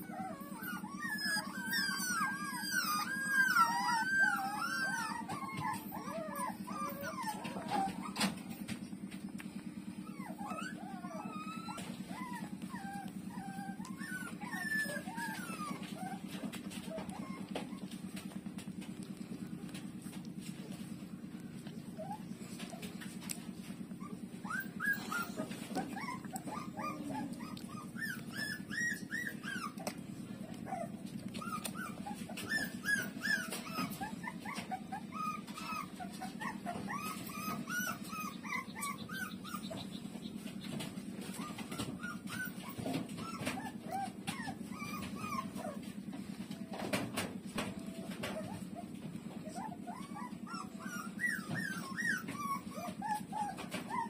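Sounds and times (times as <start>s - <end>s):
puppies squeaking and whimpering: 0.0s - 54.0s
steady low hum: 0.0s - 54.0s.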